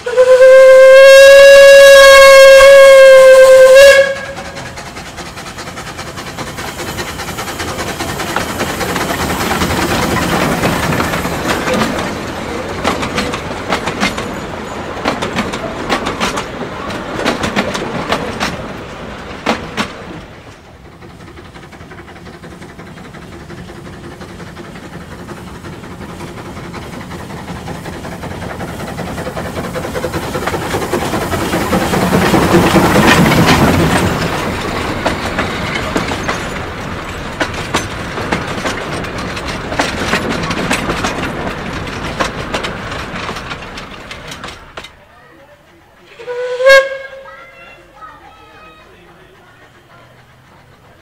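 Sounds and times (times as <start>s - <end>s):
train passing: 0.0s - 51.0s
wheels clicking over rail joints: 1.7s - 51.0s.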